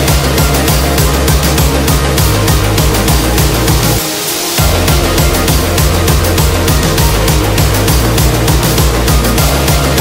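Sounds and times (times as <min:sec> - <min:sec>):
fast beat music with bass: 0:00.0 - 0:10.0.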